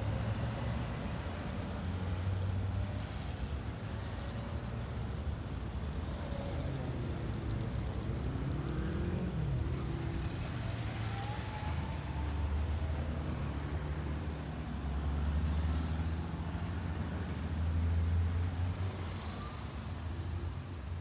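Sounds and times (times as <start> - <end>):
motor vehicle rumbling: 0.0 - 21.0.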